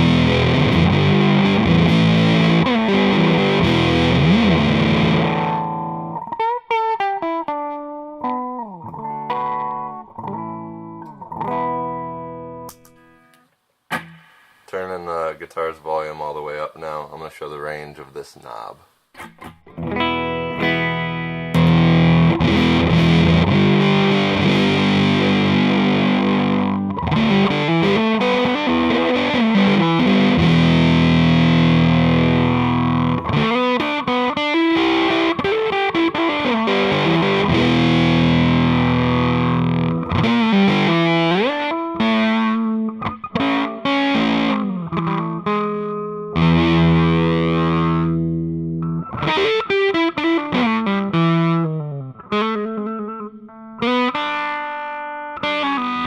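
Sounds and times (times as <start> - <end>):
fuzzed electric guitar: 0.0 - 14.8, 19.1 - 56.0.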